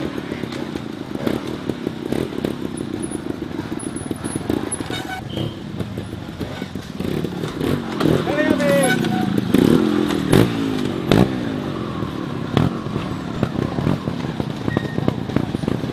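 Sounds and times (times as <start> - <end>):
motorcycle engine at low revs: 0.0 - 15.9.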